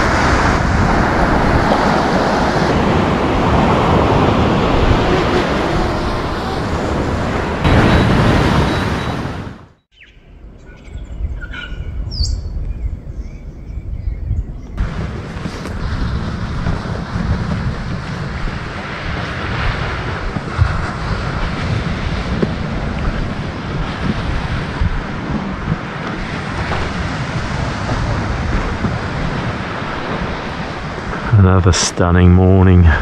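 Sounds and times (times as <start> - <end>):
ocean surf washing: 0.0 - 9.7, 14.8 - 33.0
wind rumbling on microphone: 0.0 - 31.7.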